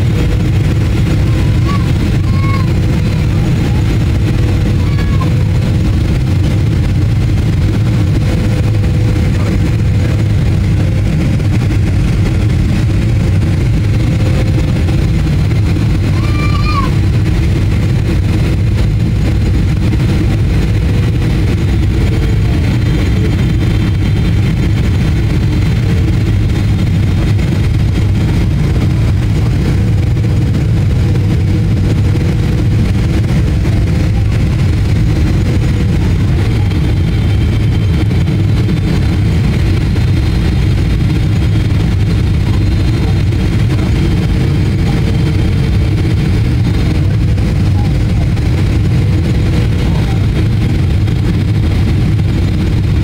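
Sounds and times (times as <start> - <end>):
jet engine drone in cabin: 0.0 - 53.0.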